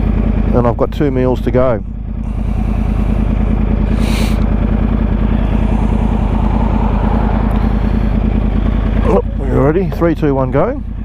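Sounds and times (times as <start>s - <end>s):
motorcycle engine idling: 0.0s - 9.7s.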